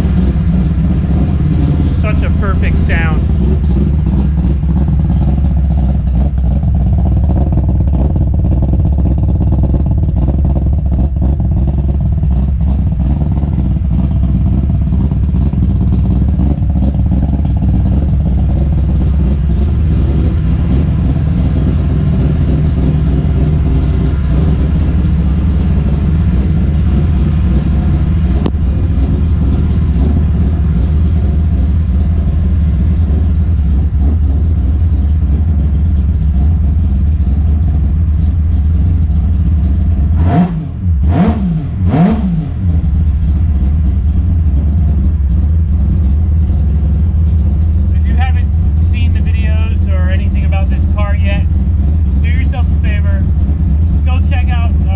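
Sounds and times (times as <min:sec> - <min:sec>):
rotary engine idling: 0:00.0 - 0:41.2, 0:42.5 - 0:54.9.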